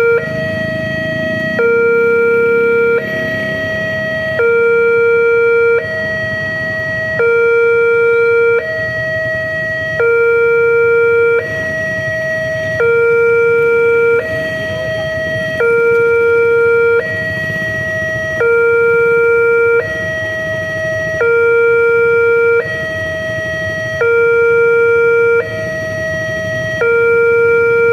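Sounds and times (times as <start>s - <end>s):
two-tone crossing warning siren: 0.0s - 27.9s.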